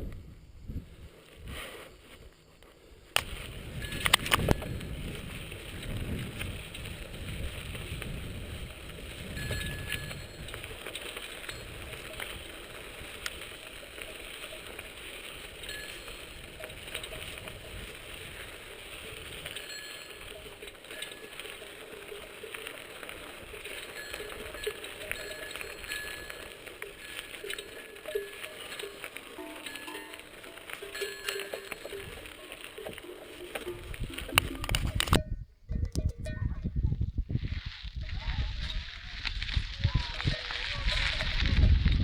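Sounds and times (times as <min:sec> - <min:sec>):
bicycle tyres rolling on dirt: 0:00.0 - 0:42.0
bike rattling: 0:03.1 - 0:42.0.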